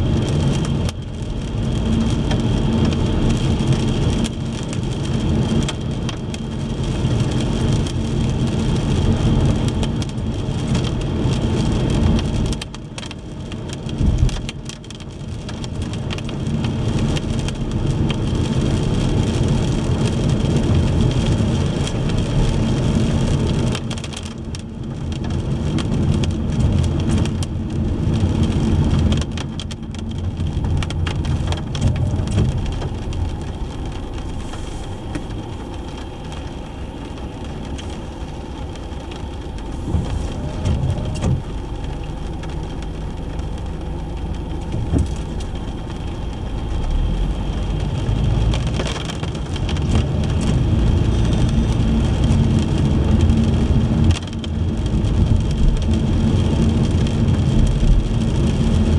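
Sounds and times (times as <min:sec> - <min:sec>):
car engine and tyres on wet road: 0:00.0 - 0:58.9
rain hitting car: 0:00.0 - 0:58.9.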